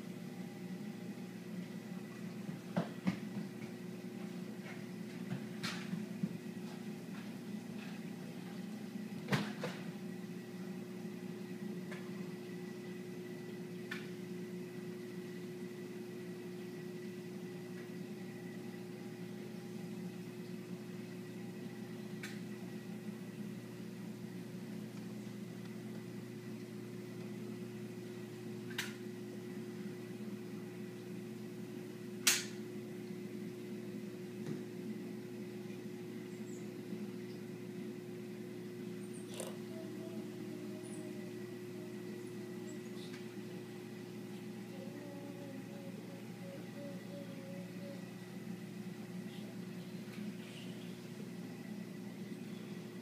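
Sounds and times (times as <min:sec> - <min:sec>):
aquarium pumps humming: 0:00.0 - 0:53.0.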